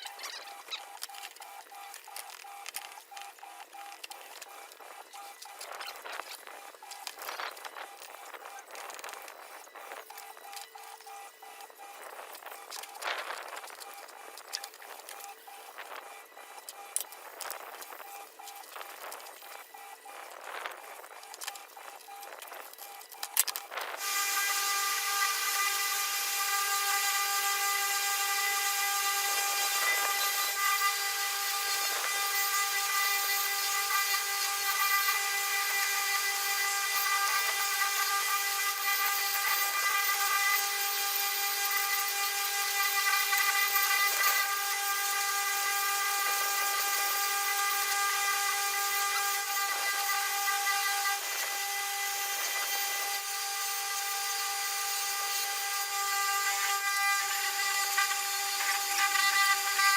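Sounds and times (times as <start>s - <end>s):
power tool whining: 0.0s - 59.9s.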